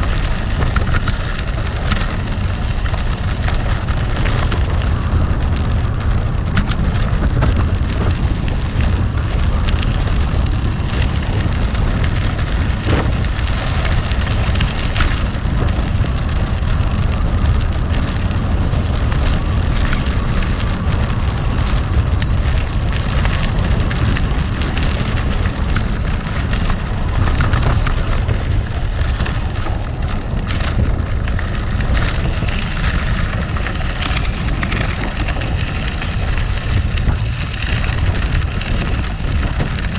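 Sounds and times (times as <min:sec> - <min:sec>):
bike rattling: 0:00.0 - 0:39.9
bike tyres crunching on gravel: 0:00.0 - 0:39.9
stones ticking and clicking: 0:00.0 - 0:39.9.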